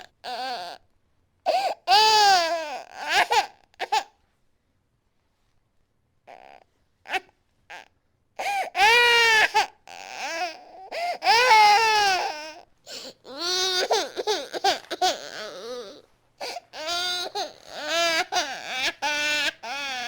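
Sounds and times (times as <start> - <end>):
baby crying: 0.0 - 0.8, 1.5 - 4.1, 6.3 - 20.0.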